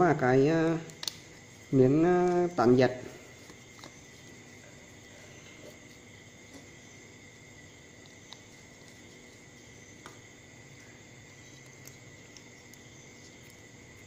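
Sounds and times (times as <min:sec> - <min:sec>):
background hiss: 0:00.0 - 0:14.0
thin high-pitched whine: 0:00.0 - 0:14.0.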